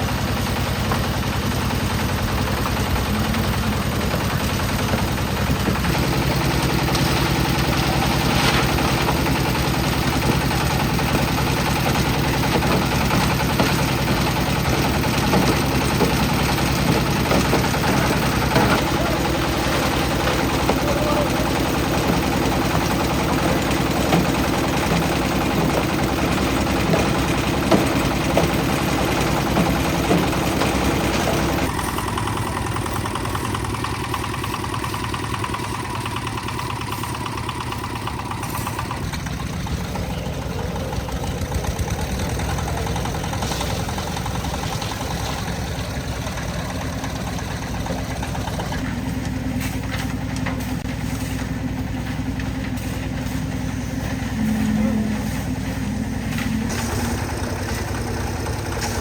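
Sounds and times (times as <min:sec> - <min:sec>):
concrete mixer engine running: 0:00.0 - 0:59.0.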